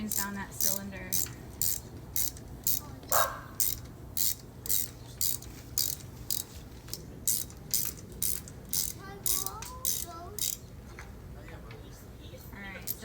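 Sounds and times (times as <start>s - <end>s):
ratchet wrench clicking: 0.0s - 10.6s, 12.8s - 13.0s.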